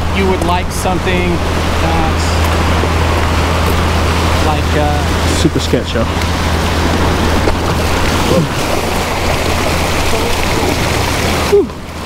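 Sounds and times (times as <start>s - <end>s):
waves splashing against rocks: 0.0s - 12.0s
wind rumble on microphone: 0.0s - 12.0s.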